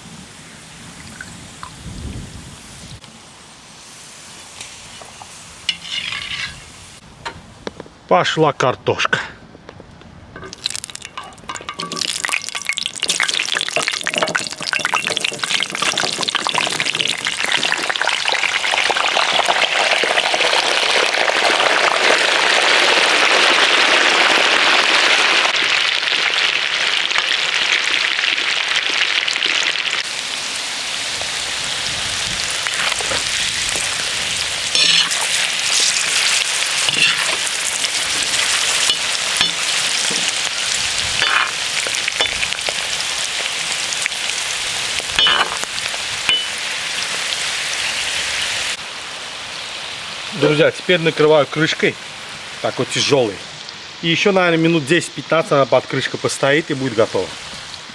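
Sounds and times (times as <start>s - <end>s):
potatoes sizzling in fat: 0.0s - 7.1s, 10.4s - 57.9s.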